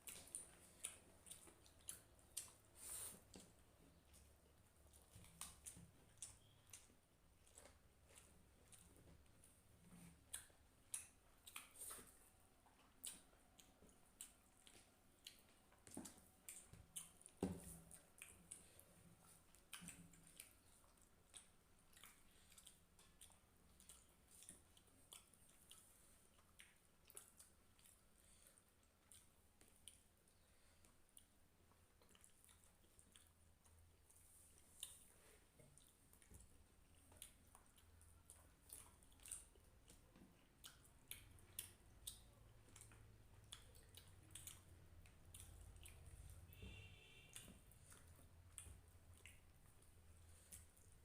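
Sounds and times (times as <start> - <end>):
wet chewing smacks: 0.0 - 51.0.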